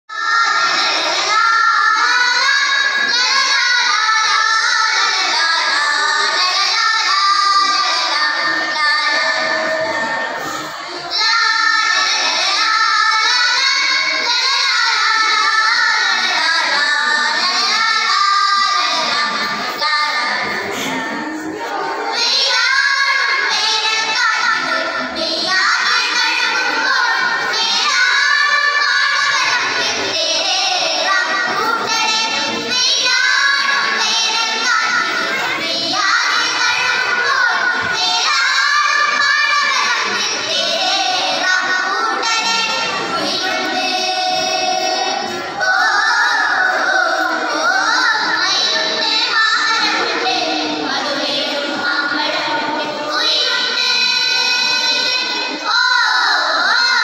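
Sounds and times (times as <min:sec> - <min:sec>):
girls singing together into microphones: 0:00.0 - 0:57.0.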